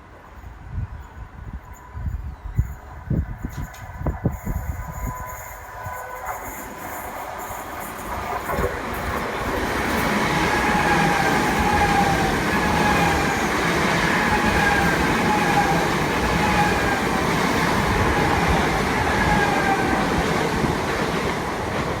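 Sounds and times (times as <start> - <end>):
train wheels rumbling: 1.6 - 22.0.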